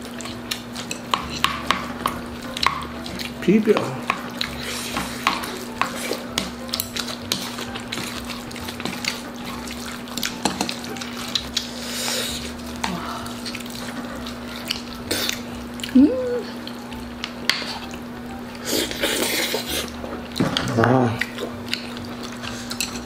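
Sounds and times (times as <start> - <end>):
wet mixing and eating sounds: 0.0 - 23.0
spoon and chopsticks scraping bowl: 0.3 - 15.5, 18.6 - 23.0.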